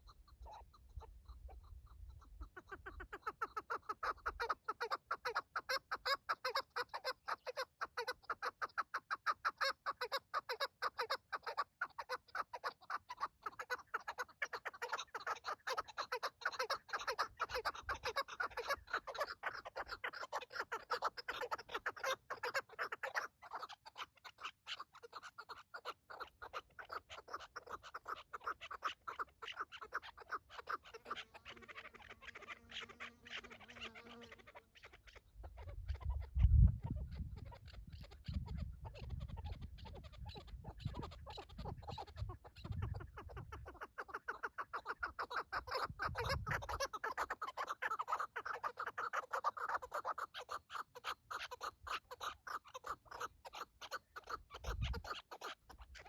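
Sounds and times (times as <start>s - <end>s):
partridge clucking call: 0.0s - 56.0s.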